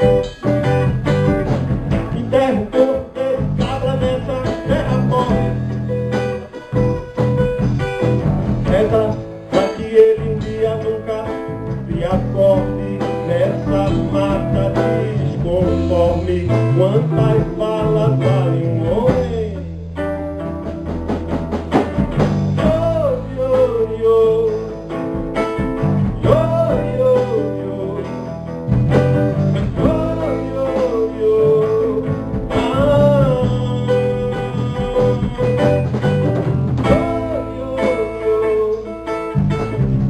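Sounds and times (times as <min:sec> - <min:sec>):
acoustic guitar: 0:00.0 - 0:40.0
low bass line: 0:00.0 - 0:40.0.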